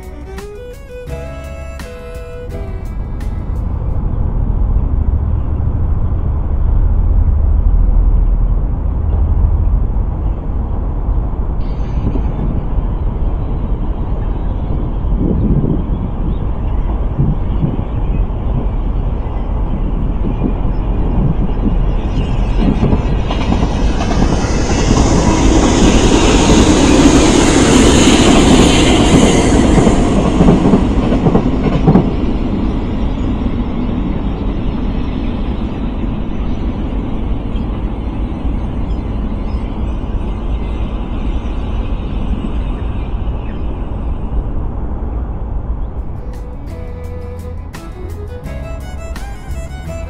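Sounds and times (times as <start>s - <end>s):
train passing on track: 0.0s - 50.0s.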